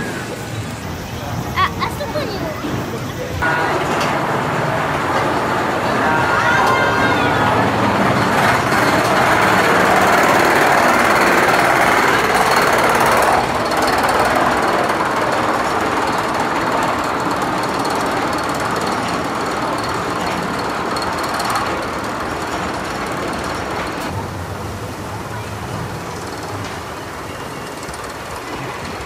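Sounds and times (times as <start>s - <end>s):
roller coaster chain lift clatter: 0.0s - 29.0s.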